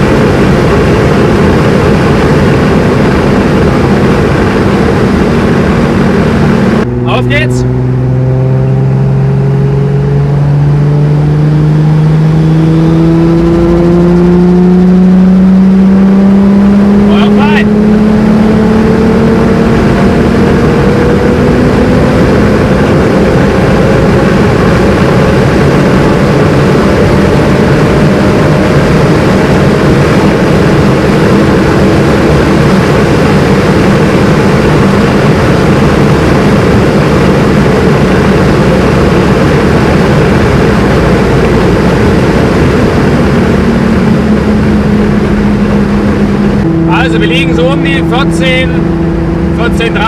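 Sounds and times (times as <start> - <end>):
turbocharged car engine accelerating: 0.0 - 50.0.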